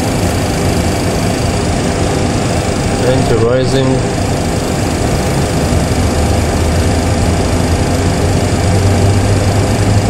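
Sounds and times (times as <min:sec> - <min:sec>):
airflow noise: 0:00.0 - 0:10.0
jet engine spooling up: 0:00.0 - 0:10.0
low hum: 0:00.0 - 0:10.0.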